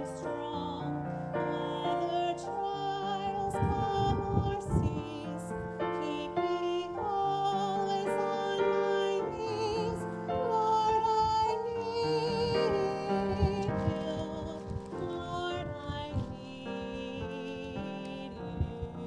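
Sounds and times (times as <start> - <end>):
person singing with vibrato: 0.0 - 19.0
piano accompaniment: 0.0 - 19.0
wind rumbling on microphone: 0.1 - 19.0.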